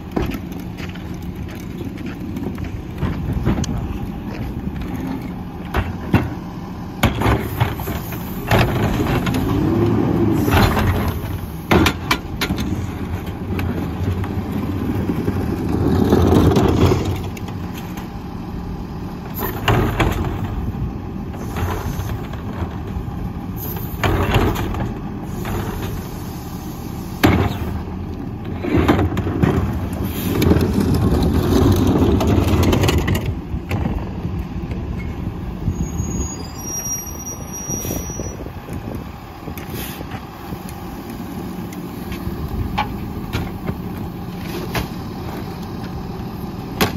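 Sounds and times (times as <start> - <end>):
garbage truck diesel engine: 0.0 - 46.9.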